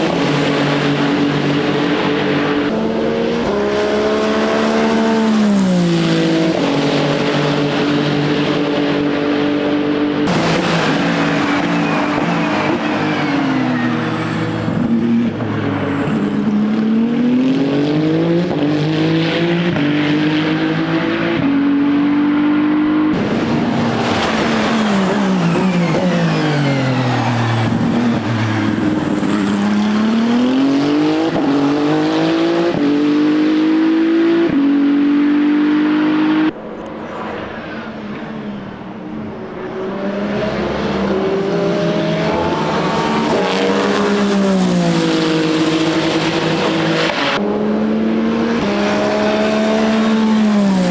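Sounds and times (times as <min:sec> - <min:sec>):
race car engine: 0:00.0 - 0:50.9.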